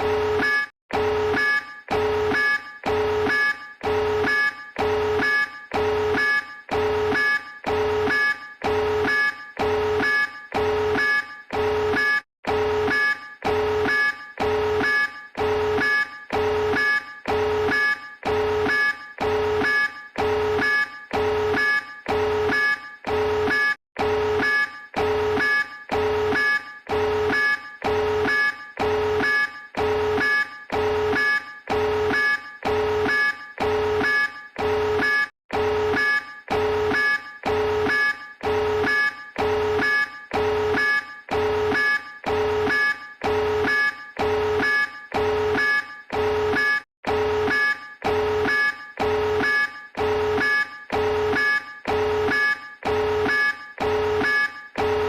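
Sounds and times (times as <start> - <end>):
pulsing buzzing alarm tone: 0.0 - 55.0.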